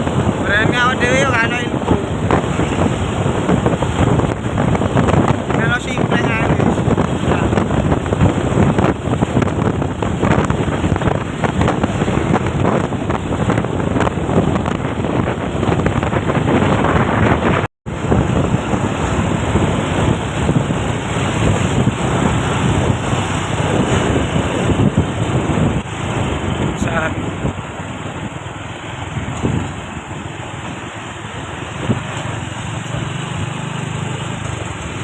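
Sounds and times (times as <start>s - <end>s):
moving vehicle noise: 0.0s - 35.0s
wind buffeting microphone: 0.0s - 35.0s.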